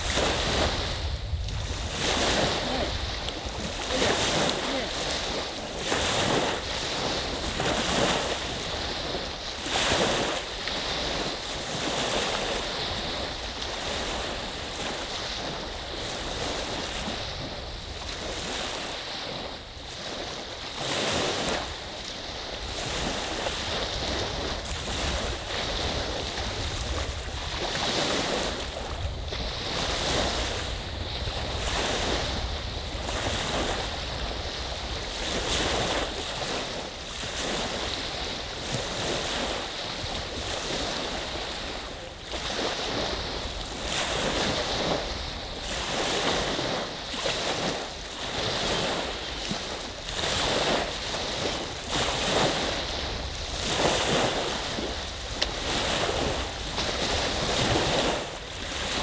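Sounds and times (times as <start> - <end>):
waves washing ashore: 0.0 - 59.0.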